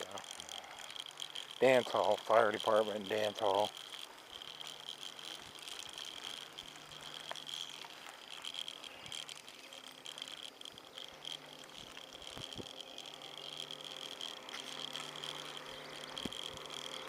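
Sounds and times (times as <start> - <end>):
bicycle rattles and ticks: 0.0 - 17.0
high-pitched buzz: 0.0 - 17.0.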